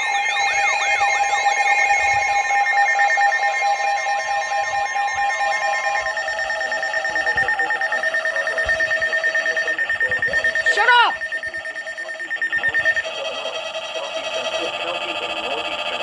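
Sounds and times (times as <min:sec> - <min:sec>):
up-and-down siren sweep: 0:00.0 - 0:14.4
pulsing alert beeps: 0:00.0 - 0:15.4
steady alert tone: 0:00.0 - 0:15.6.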